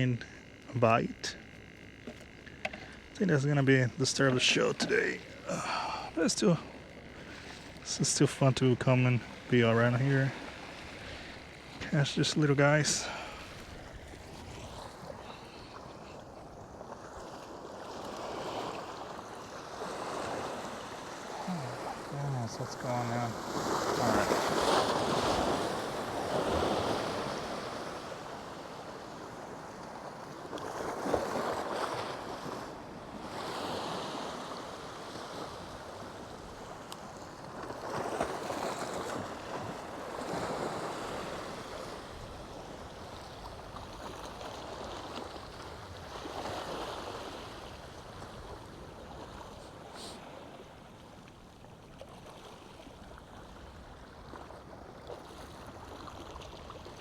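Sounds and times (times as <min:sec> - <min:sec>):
small waves washing: 0:00.0 - 0:57.0.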